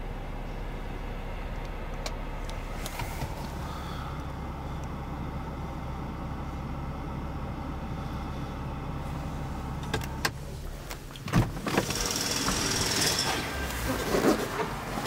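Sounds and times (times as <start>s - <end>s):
car engine idling low hum: 0.0s - 15.0s.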